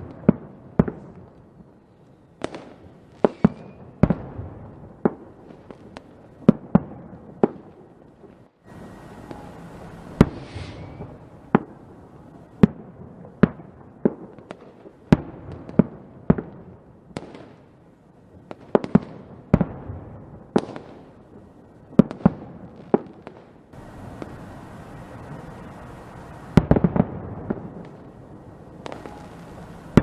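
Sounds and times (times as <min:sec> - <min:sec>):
fireworks banging: 0:00.0 - 0:17.7, 0:18.4 - 0:30.0
steady background hiss: 0:00.0 - 0:30.0.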